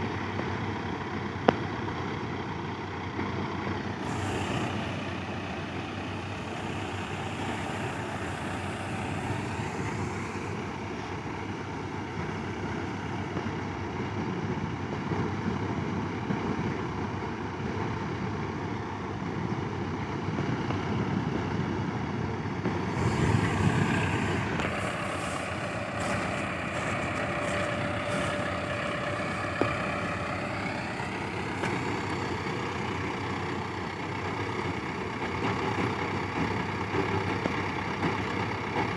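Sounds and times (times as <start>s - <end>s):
high engine whine: 0.0s - 38.9s
tractor diesel engine running: 0.0s - 38.9s.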